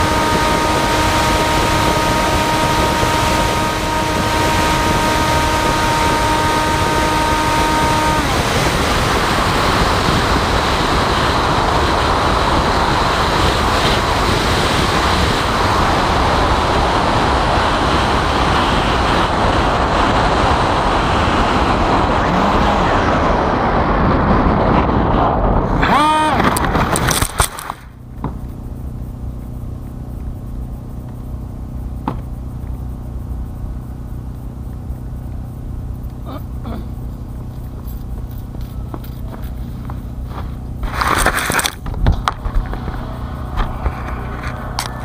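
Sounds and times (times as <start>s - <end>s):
propeller motor whine: 0.0s - 45.0s
wind rush on microphone: 0.0s - 45.0s.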